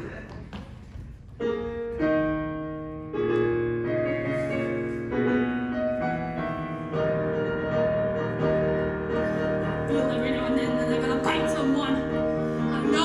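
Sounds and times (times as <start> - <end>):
piano chords: 1.0 - 13.0.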